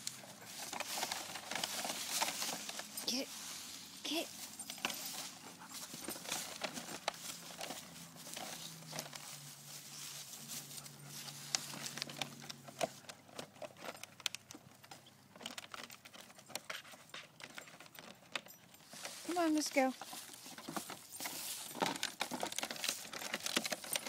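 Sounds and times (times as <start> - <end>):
bucket scraping over grass and leaves: 0.0 - 14.1, 18.8 - 24.0.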